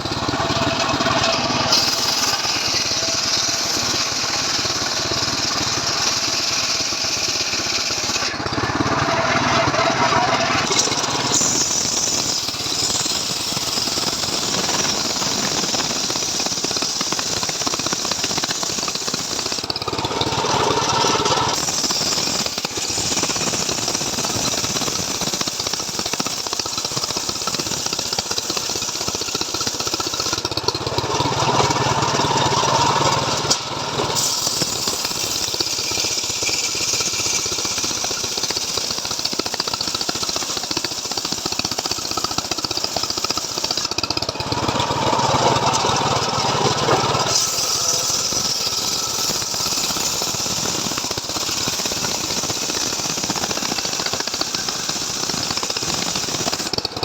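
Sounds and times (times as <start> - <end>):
chainsaw engine cutting wood: 0.0 - 57.0.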